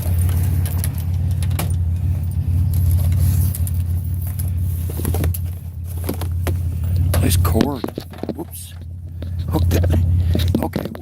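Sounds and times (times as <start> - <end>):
scrap metal clinks and rattles: 0.0 - 11.0
vehicle idling: 0.0 - 11.0.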